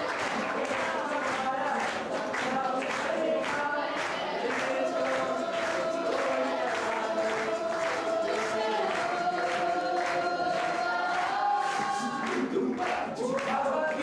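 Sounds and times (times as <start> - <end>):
group singing: 0.0 - 14.0.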